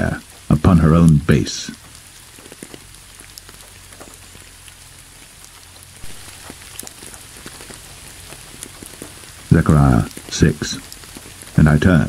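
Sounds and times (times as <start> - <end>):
raindrops ticking: 0.0 - 12.0
steady rain falling: 0.0 - 12.0.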